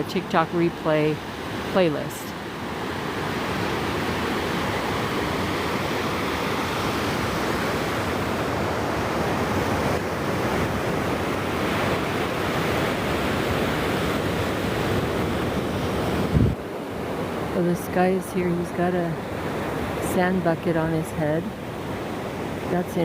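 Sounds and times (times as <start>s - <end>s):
ocean surf washing onto beach: 0.0s - 23.0s.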